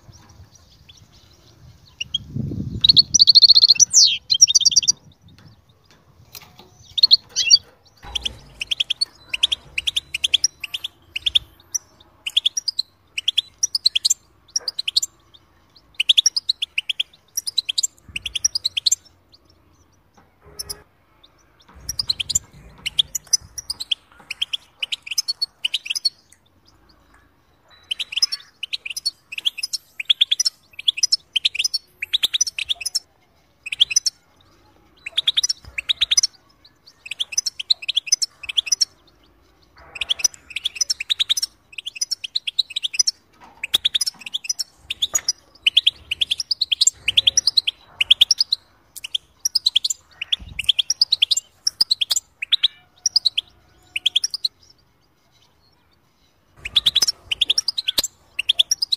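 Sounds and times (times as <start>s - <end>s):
bird twittering song: 0.0s - 58.9s.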